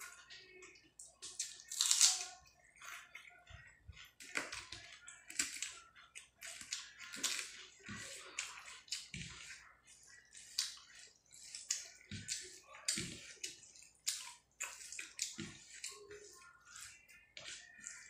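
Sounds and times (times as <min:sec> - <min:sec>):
fingers squishing wet food: 0:00.0 - 0:18.0.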